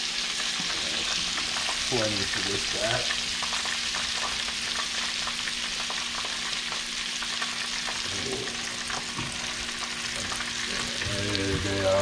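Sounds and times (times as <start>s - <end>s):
onions sizzling in butter: 0.0s - 12.0s.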